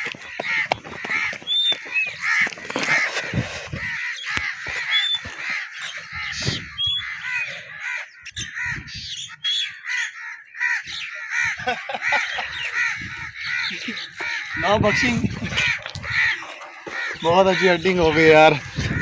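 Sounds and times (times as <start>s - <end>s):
flock of birds cawing: 0.0s - 19.0s.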